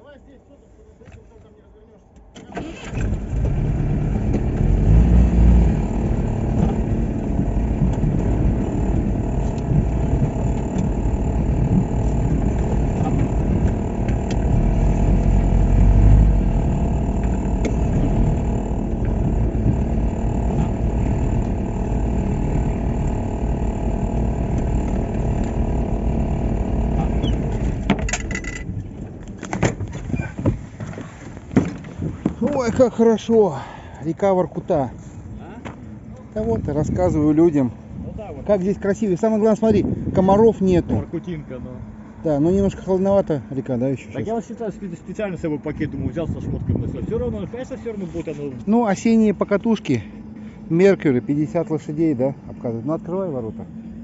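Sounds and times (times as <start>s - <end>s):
car engine and road noise: 1.0s - 54.0s.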